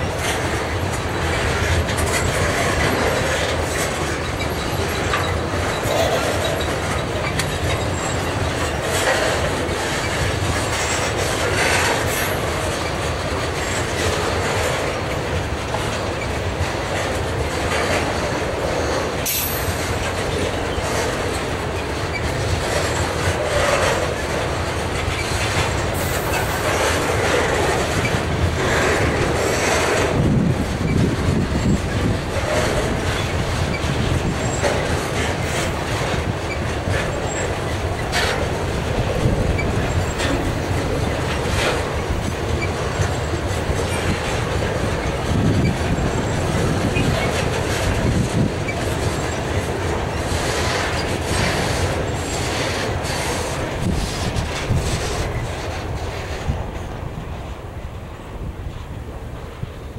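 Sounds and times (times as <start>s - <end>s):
steel wheels rumbling on rails: 0.0s - 59.9s
wheels clacking over rail joints: 0.0s - 59.9s.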